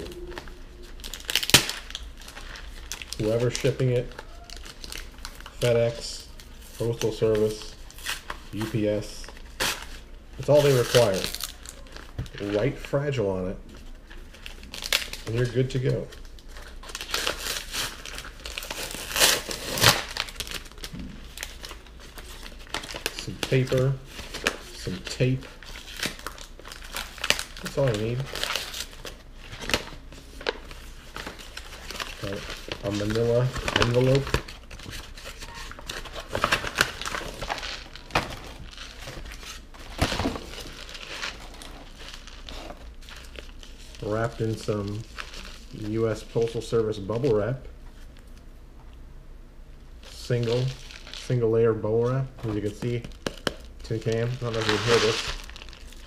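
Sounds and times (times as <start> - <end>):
paper crinkling and tearing: 0.0 - 12.9, 13.7 - 47.5, 50.0 - 51.4, 52.0 - 56.0.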